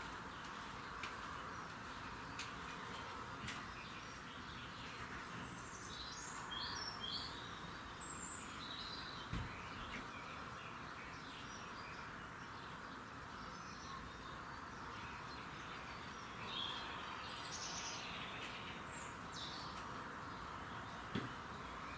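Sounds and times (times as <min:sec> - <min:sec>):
wild birds singing: 0:00.0 - 0:21.9.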